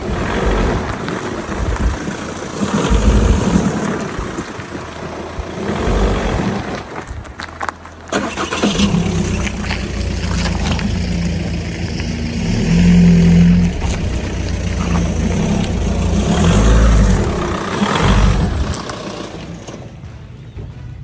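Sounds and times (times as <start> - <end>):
diesel car engine running: 0.0 - 20.3.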